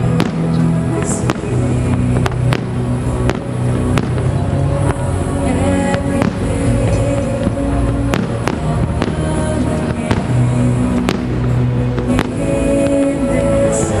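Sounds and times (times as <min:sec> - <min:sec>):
music playing: 0:00.0 - 0:14.0.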